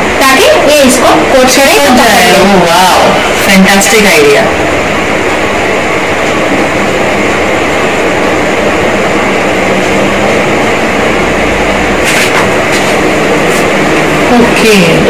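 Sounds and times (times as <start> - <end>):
loud rushing machine noise: 0.0 - 15.0.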